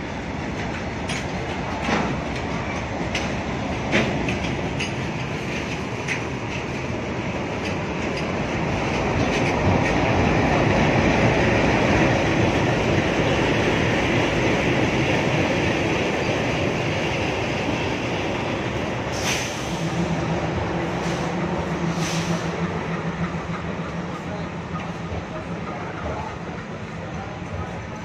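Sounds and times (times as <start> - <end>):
diesel locomotive engine: 0.0 - 28.0
train wheels clattering over rail joints: 0.3 - 28.0.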